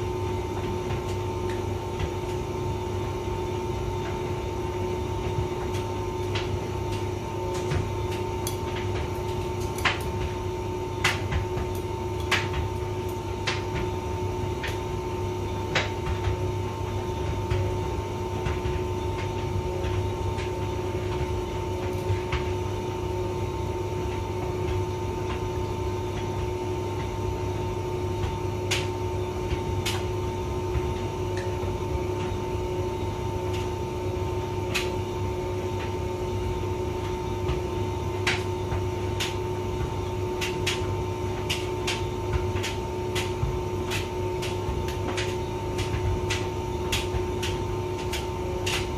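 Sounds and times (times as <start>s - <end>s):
clicks and knocks in dryer drum: 0.0s - 48.9s
tumble dryer humming: 0.0s - 48.9s.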